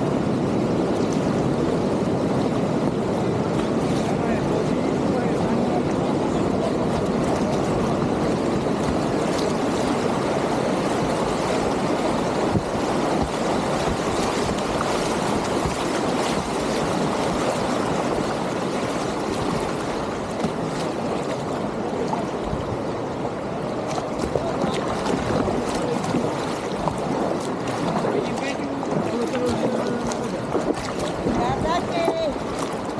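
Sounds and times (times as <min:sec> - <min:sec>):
river rapids rushing: 0:00.0 - 0:32.9.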